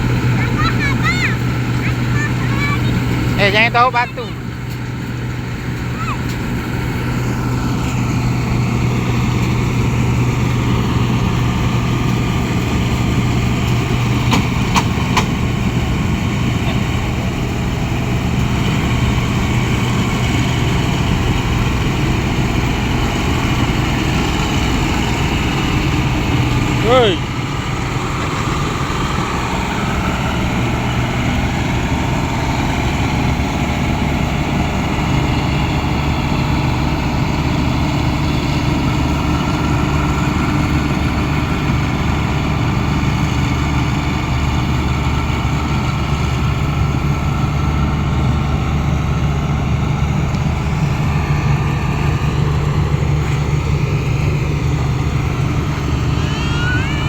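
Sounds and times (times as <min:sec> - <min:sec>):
machine engine humming: 0:00.0 - 0:57.0.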